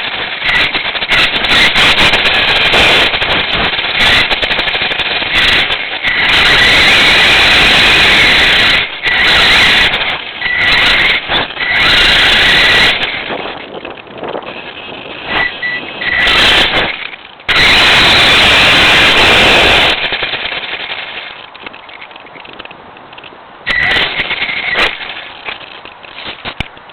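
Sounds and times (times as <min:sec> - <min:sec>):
rc car motor whine: 0:00.0 - 0:22.4, 0:23.7 - 0:26.9
rattling and tyre noise: 0:00.0 - 0:26.9.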